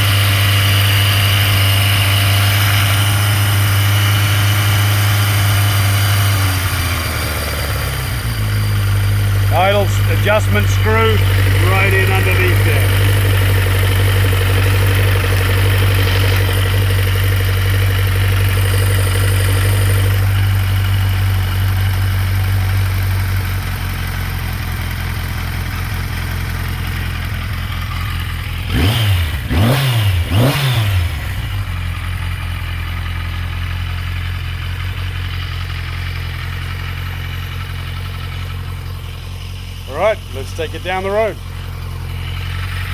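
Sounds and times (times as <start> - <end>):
throttle blips revving engine: 0.0 - 32.2, 36.6 - 42.9
motorcycle engine idling: 0.0 - 42.9.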